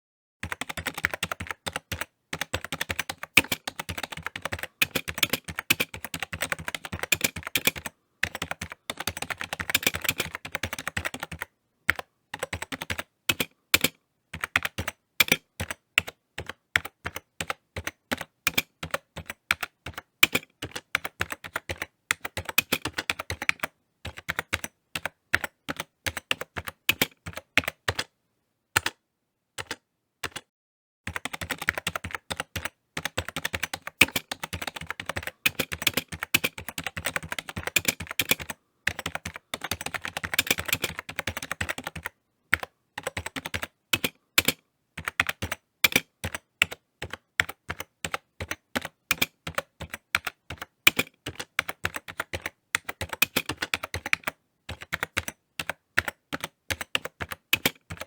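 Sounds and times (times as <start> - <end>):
typing on computer keyboard: 0.4 - 28.1, 28.8 - 29.0, 29.6 - 30.5, 31.1 - 58.0.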